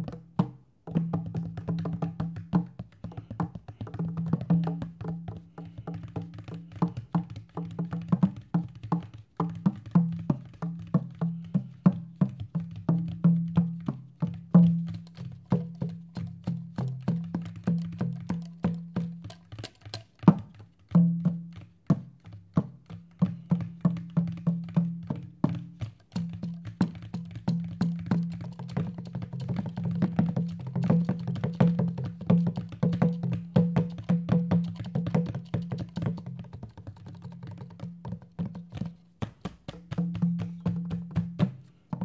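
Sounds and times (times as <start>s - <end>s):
hand drum fast strokes: 0.9s - 42.0s.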